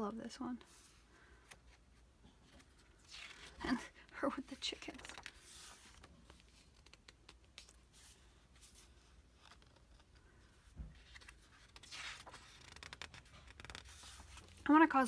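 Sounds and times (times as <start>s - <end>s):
paper pages rustling: 0.7s - 15.0s.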